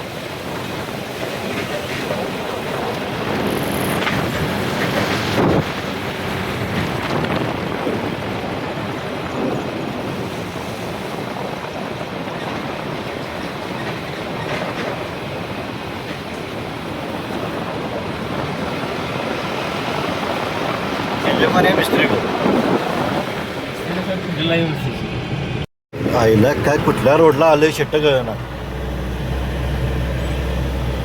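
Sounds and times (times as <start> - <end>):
vehicle road noise: 0.0 - 31.0
wind rush: 0.0 - 31.0.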